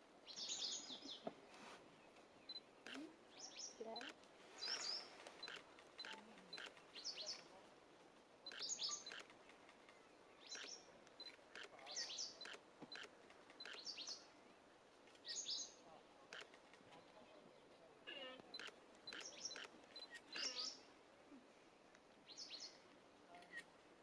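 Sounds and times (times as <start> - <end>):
small birds chirping: 0.2 - 7.6, 8.4 - 20.9, 21.9 - 23.6.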